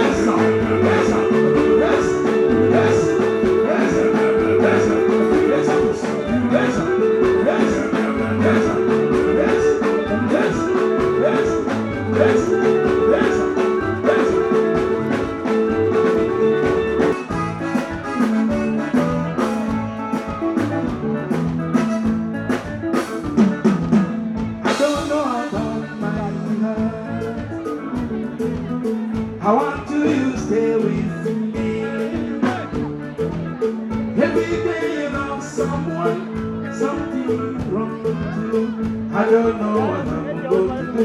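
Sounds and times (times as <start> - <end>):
drum kit beat: 0.0 - 41.0
guitar lines: 0.0 - 41.0
live band playing: 0.0 - 41.0.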